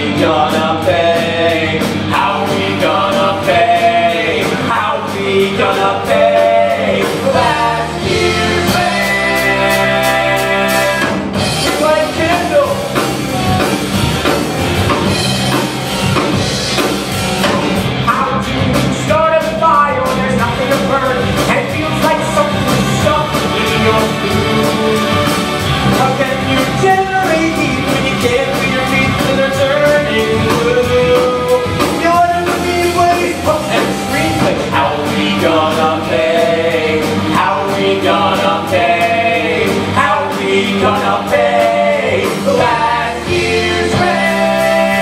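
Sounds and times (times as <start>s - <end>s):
cast singing: 0.0s - 13.2s, 20.8s - 45.0s
rock band playing: 0.0s - 45.0s.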